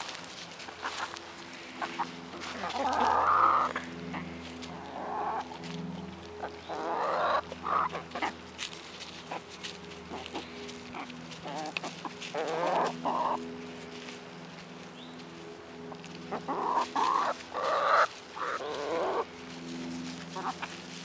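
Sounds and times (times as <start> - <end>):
hens clucking: 0.0 - 15.0, 15.9 - 19.3, 20.1 - 20.9
low hum: 0.0 - 21.0.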